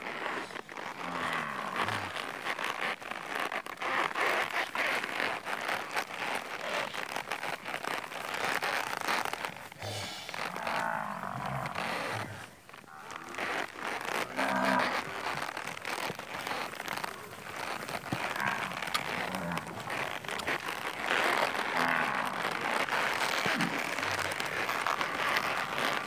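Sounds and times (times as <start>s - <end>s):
calves' hooves running on dirt: 0.0s - 26.0s.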